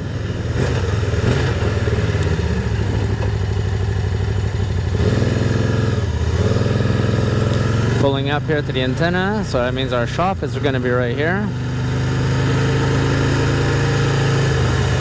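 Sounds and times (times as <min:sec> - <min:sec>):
three-cylinder engine running: 0:00.0 - 0:15.0.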